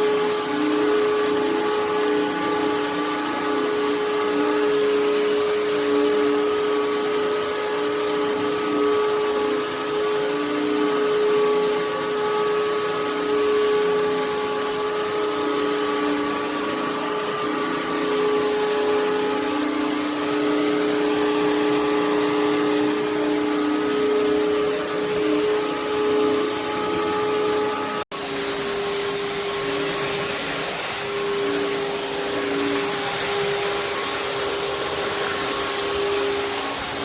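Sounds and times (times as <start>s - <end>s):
vacuum mop motor whine: 0.0s - 37.0s.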